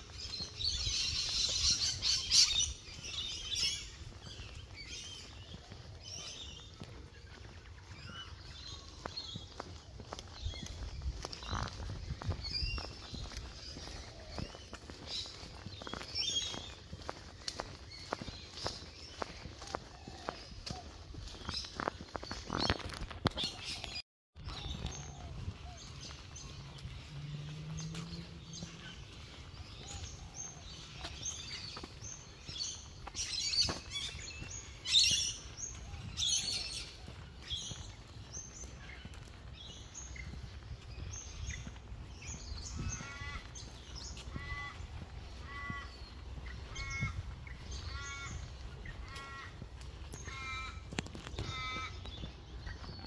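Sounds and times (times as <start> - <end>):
loud sharp bird calls: 0.0 - 53.0.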